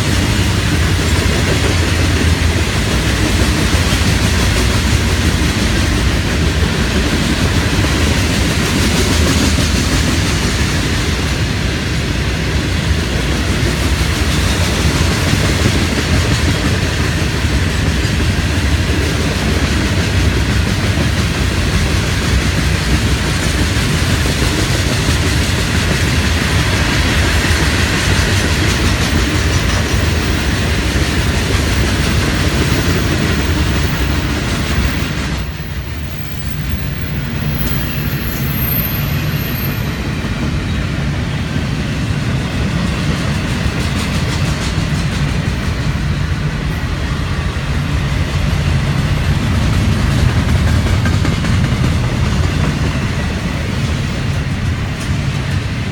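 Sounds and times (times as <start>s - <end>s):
freight train rolling past: 0.0s - 55.9s.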